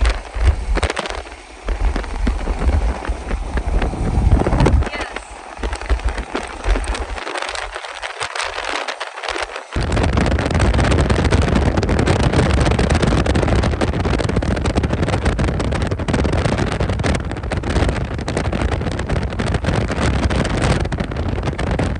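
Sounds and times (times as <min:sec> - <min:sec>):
strong wind buffeting microphone: 0:00.0 - 0:21.9.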